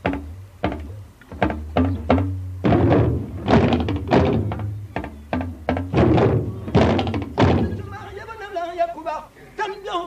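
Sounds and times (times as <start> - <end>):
talking drums struck with sticks: 0.0 - 8.1.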